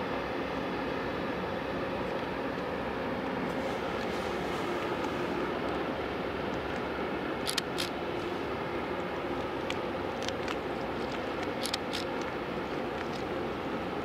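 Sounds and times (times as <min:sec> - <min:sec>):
faint steady hum: 0:00.0 - 0:14.0
ship engines droning: 0:00.0 - 0:14.0.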